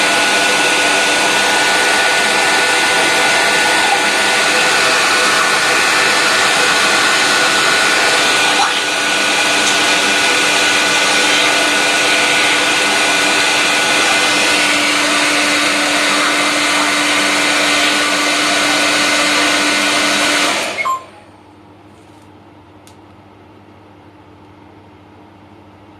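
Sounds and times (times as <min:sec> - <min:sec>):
hair dryer blowing: 0:00.0 - 0:21.2.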